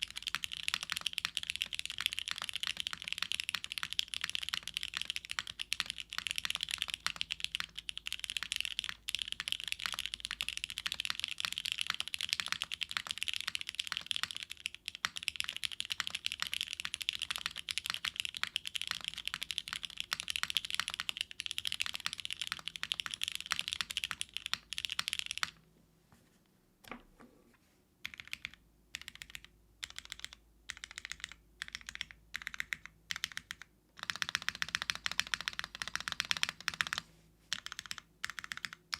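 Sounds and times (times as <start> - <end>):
fast typing on mechanical keyboard: 0.0 - 25.6, 28.0 - 38.9.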